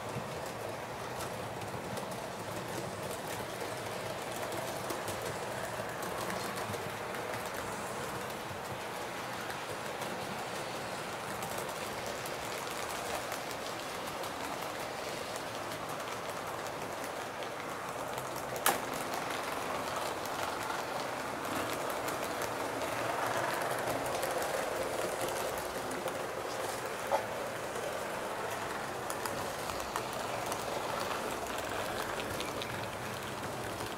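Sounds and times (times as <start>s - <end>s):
model train wheels rattling: 0.0s - 33.9s.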